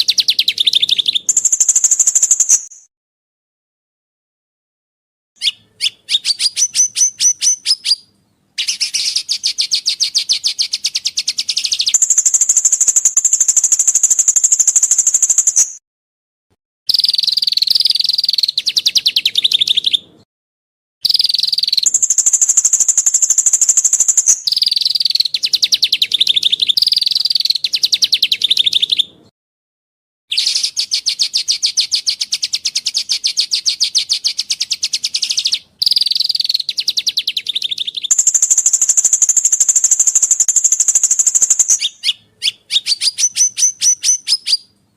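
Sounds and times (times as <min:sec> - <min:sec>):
songbird singing fast trills: 0:00.0 - 0:02.9, 0:05.4 - 0:15.8, 0:16.9 - 0:20.1, 0:21.0 - 0:29.2, 0:30.3 - 0:44.8.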